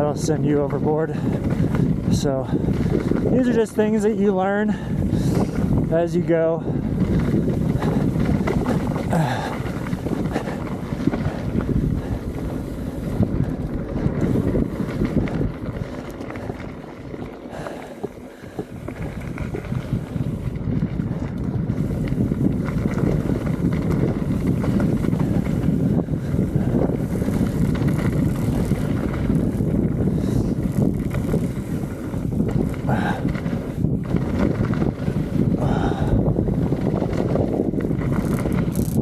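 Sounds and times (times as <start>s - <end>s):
bike rattling: 0.0s - 39.0s
tyre rumble: 0.0s - 39.0s
wind rushing over microphone: 0.0s - 39.0s.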